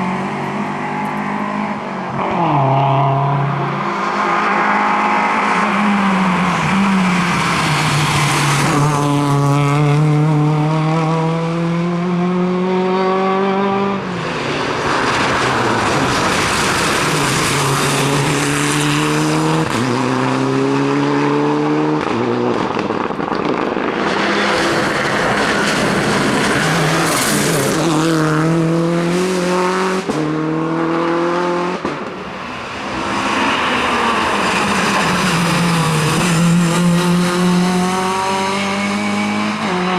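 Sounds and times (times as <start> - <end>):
rally car engine revving: 0.0 - 39.9
tyre and road noise: 0.0 - 39.9.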